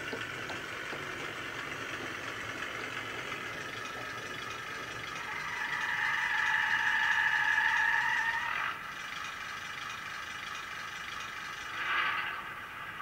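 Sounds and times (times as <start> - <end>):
tinny diesel engine idling: 0.0 - 13.0.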